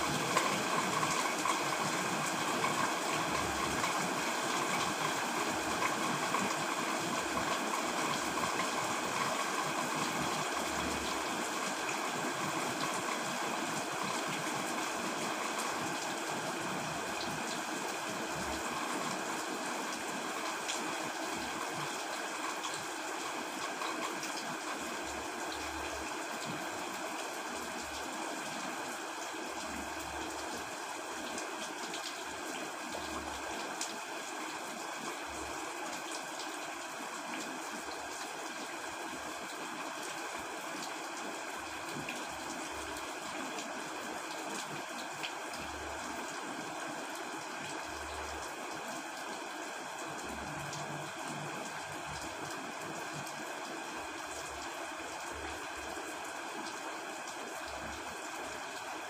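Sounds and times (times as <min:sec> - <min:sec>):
faint ticks of rain: 0:00.0 - 0:59.0
steady rain hiss: 0:00.0 - 0:59.0.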